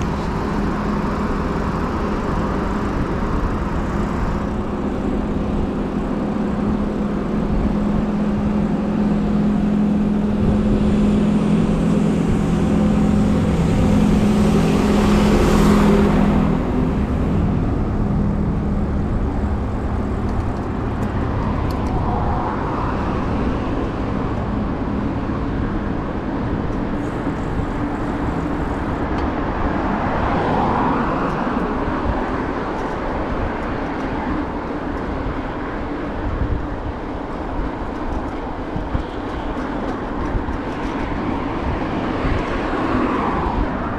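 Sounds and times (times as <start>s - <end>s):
traffic rush with cars passing: 0.0s - 43.9s
vehicle engine hum: 0.0s - 43.9s.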